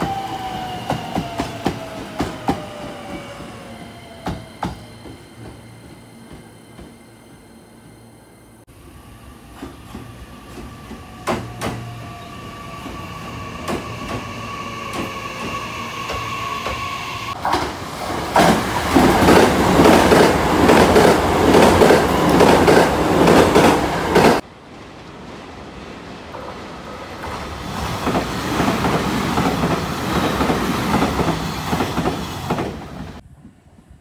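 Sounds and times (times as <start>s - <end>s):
train rumbling and clattering: 0.0s - 8.0s, 9.4s - 34.0s.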